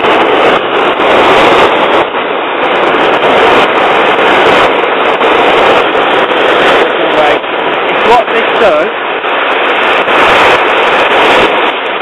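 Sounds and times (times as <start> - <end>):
gas torch burning: 0.0 - 12.0.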